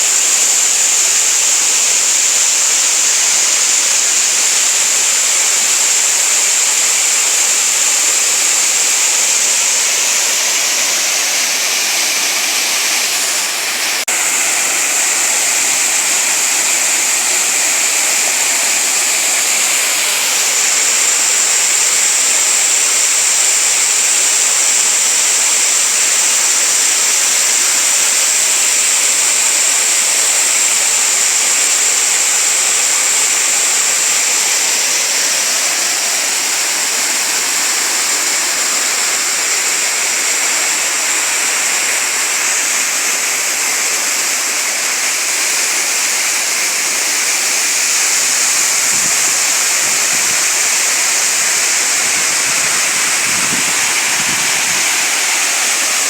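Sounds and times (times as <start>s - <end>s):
waterfall rushing over rock: 0.0s - 56.0s.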